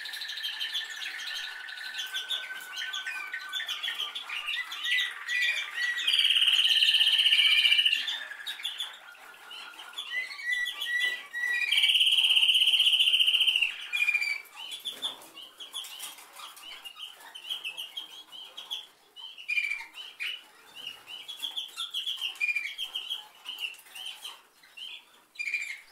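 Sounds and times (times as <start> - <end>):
canary singing: 0.0 - 25.9.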